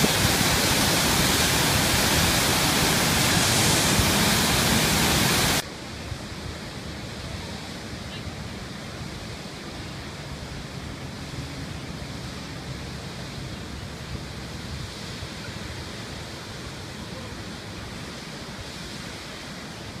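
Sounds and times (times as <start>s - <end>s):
waterfall roar: 0.0s - 20.0s.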